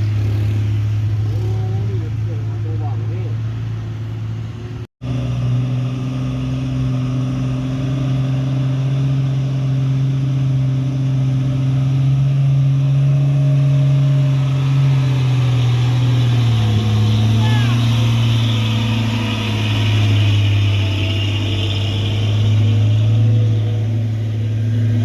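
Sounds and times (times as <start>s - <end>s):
truck engine droning: 0.0s - 25.0s.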